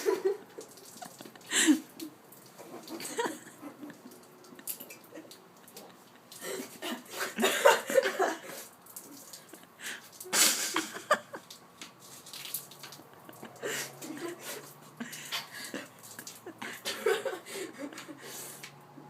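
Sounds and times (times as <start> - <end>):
soda gushing and splashing: 0.0 - 18.8.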